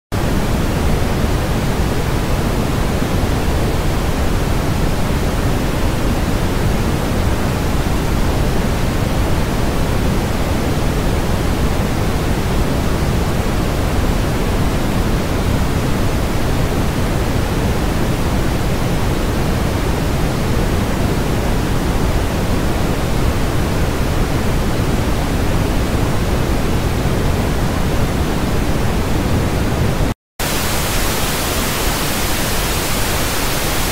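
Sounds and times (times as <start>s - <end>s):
brown noise: 0.2s - 33.9s.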